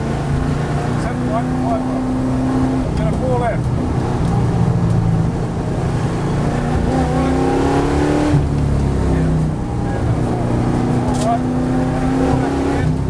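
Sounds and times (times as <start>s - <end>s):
car engine revving under load: 0.0s - 13.0s
road and tyre rumble: 0.0s - 13.0s.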